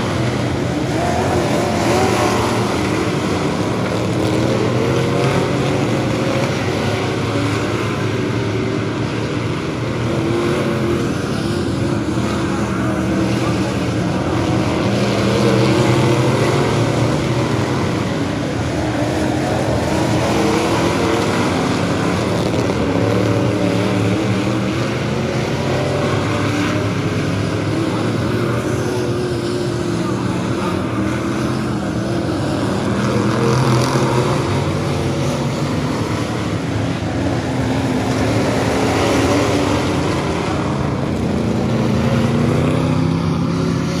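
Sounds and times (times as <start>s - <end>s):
stock car engines racing: 0.0s - 44.0s.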